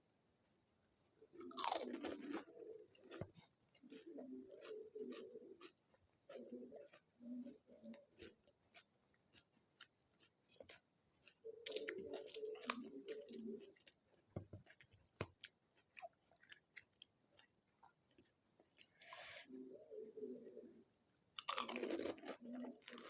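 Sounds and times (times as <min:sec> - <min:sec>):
crisp food crunching while chewing: 0:01.4 - 0:19.0, 0:21.4 - 0:23.0.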